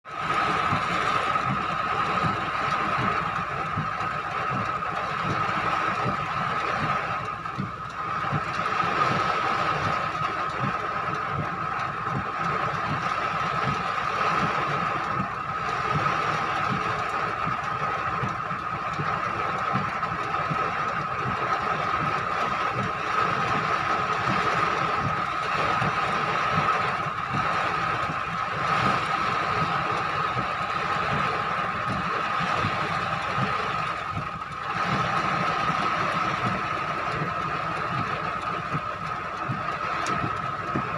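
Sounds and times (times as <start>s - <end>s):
storm wind and rain: 0.1s - 40.9s.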